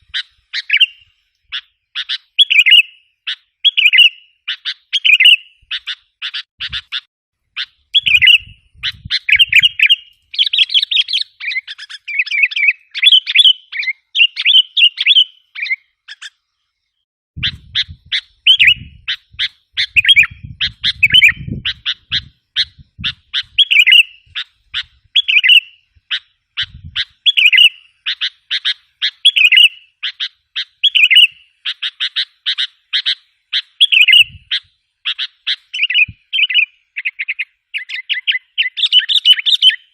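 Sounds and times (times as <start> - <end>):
bird chattering chirps: 0.1 - 16.4, 17.4 - 39.9.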